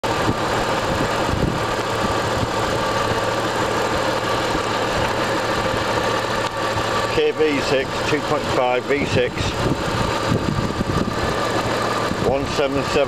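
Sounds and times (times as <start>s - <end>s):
car engine idling: 0.0s - 13.0s
high engine whine: 0.0s - 13.0s.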